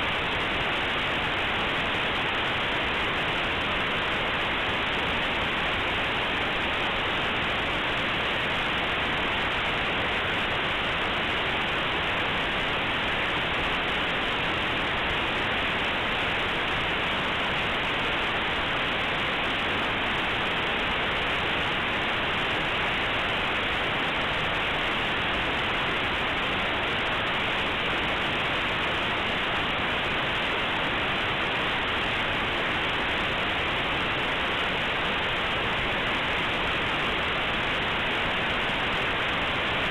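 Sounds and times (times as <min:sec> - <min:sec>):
muffled white noise hiss: 0:00.0 - 0:39.9.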